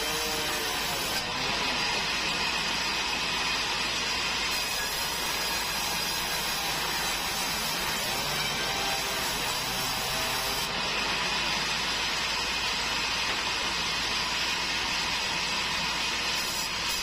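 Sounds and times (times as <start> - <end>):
band saw cutting wood: 0.0 - 17.0.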